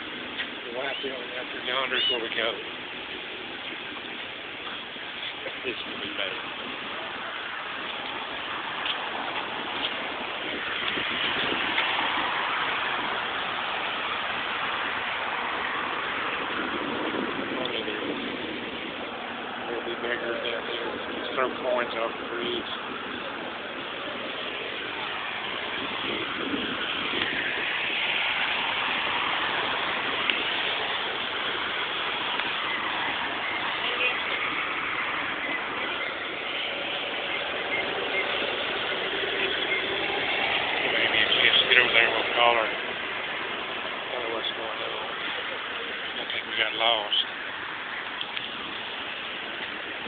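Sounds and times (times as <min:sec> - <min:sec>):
highway traffic rushing: 0:00.0 - 0:50.0.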